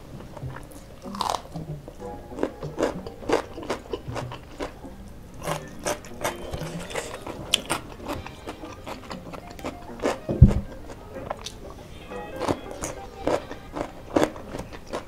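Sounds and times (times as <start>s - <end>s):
background music: 0.0s - 15.0s
crunching and chewing cucumber: 0.4s - 1.6s, 2.3s - 4.8s, 5.4s - 11.6s, 12.4s - 15.0s.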